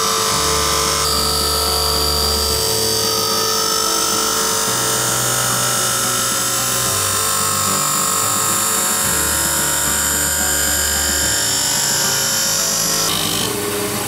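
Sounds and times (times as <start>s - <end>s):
lens grinding whine: 0.0s - 14.0s.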